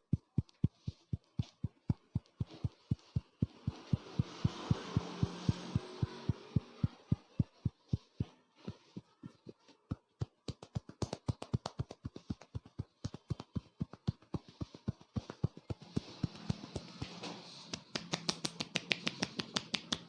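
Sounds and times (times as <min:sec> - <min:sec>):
hands tapping on head: 0:00.0 - 0:20.0.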